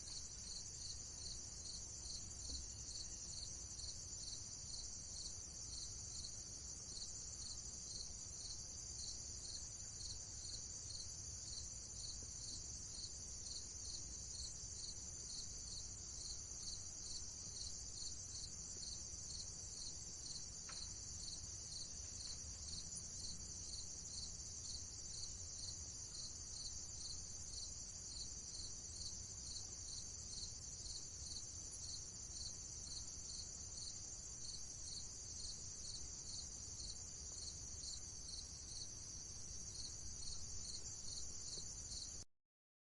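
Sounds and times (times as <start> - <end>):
crickets chirring: 0.0 - 42.2.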